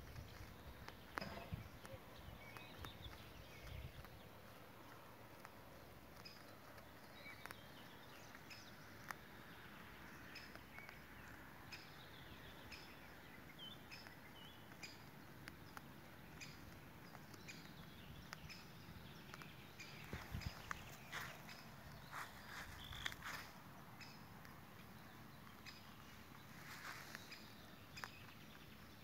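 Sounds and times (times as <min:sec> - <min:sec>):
outdoor background hiss: 0:00.0 - 0:29.0
soft clicks: 0:00.1 - 0:28.9.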